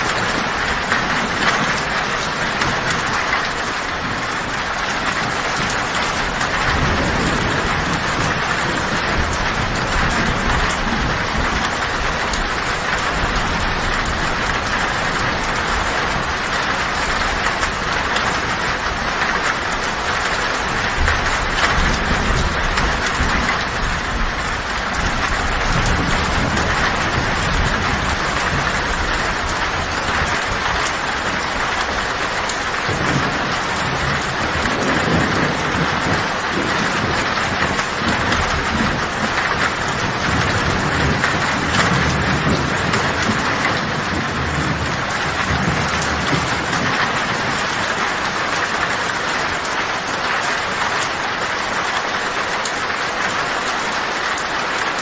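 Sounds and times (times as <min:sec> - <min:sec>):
thunder rumbling: 0:00.0 - 0:53.8
heavy rain on a tin roof: 0:00.0 - 0:55.0.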